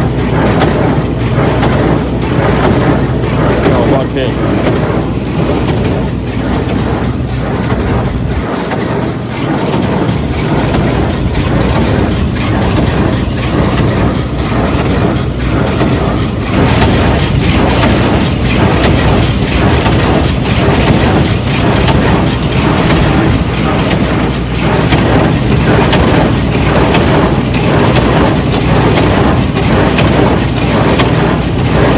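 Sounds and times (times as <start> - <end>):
tractor engine drone: 0.0 - 31.9.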